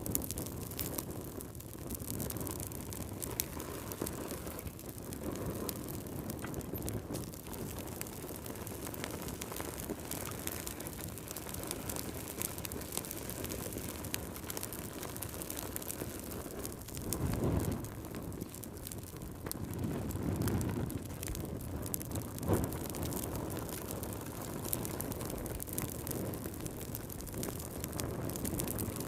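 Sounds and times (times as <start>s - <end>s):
fire crackling and popping: 0.0s - 29.0s
low rush of flame: 0.0s - 29.0s.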